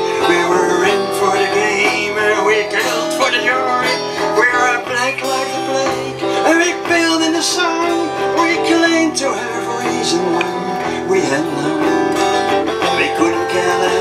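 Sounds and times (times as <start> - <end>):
acoustic guitars strummed: 0.0 - 14.0
electric guitar melody: 0.0 - 14.0.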